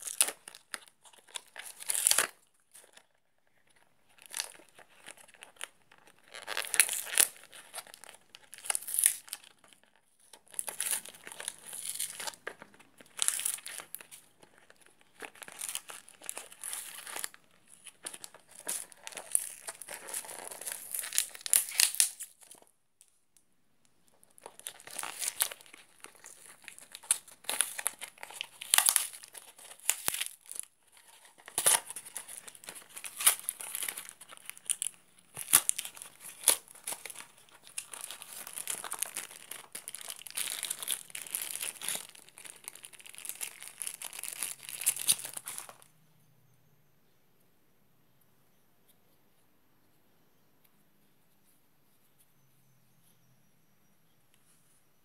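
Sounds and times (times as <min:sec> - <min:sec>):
plastic packaging crinkling and tearing: 0:00.0 - 0:22.7, 0:24.1 - 0:45.9.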